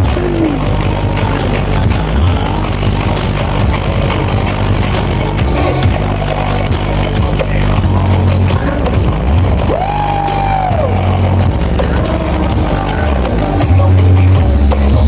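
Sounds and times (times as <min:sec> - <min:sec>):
bass-heavy dance music: 0:00.0 - 0:15.0.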